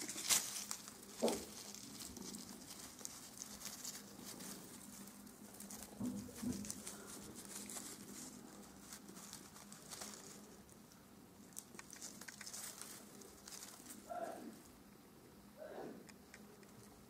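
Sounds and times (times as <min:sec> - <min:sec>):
paper streamers rustling: 0:00.0 - 0:14.1.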